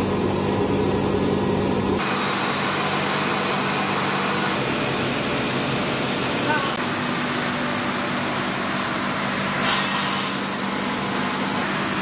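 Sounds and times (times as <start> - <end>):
machinery whirring and humming: 0.0 - 12.0.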